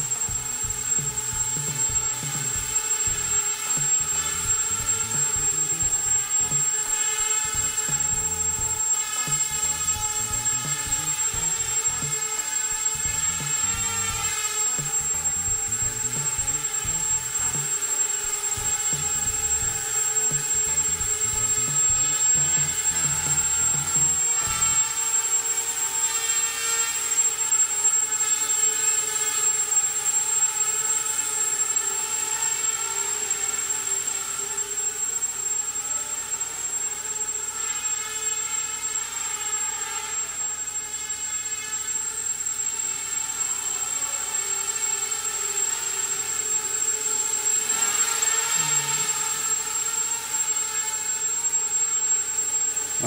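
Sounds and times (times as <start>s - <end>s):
quadcopter motors buzzing whine: 0.0s - 53.0s.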